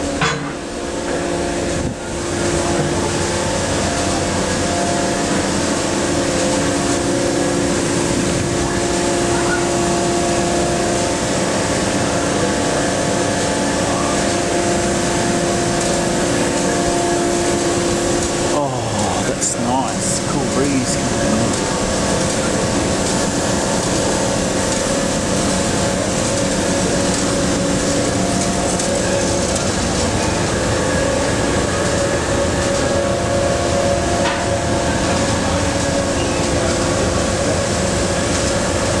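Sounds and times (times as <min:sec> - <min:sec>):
air conditioning rushing air: 0:00.0 - 0:39.0
machinery hum tones: 0:00.0 - 0:39.0.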